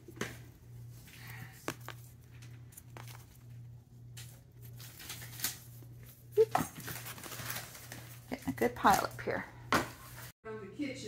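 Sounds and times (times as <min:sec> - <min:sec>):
cat toys rustling: 0:00.1 - 0:10.3.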